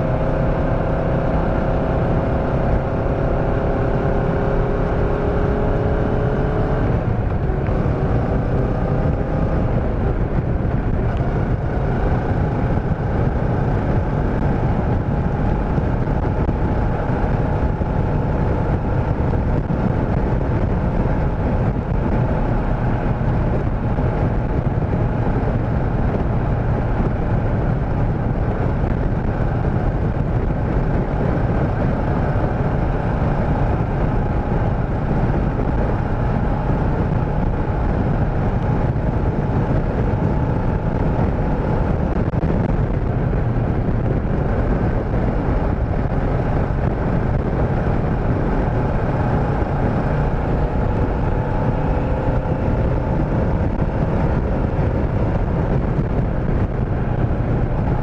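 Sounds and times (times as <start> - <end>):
motorcycle cruising: 0.0 - 58.0
wind rushing over microphone: 0.0 - 58.0.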